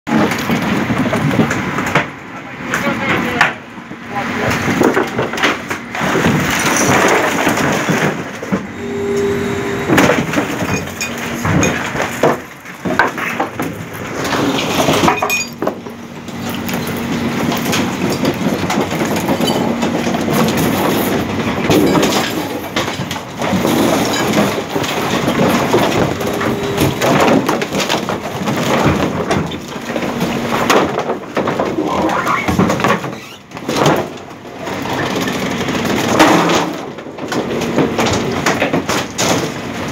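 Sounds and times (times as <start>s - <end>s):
wood cracking and splintering: 0.1s - 3.6s, 4.4s - 8.7s, 9.9s - 39.9s
garbage truck compactor hum: 0.1s - 39.9s.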